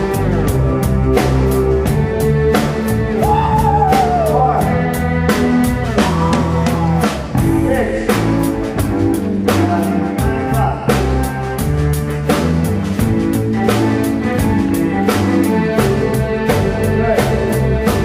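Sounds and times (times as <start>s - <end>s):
drum kit beating: 0.0s - 18.0s
pitch-bending lead guitar line: 0.0s - 18.0s
rock band playing: 0.0s - 18.0s.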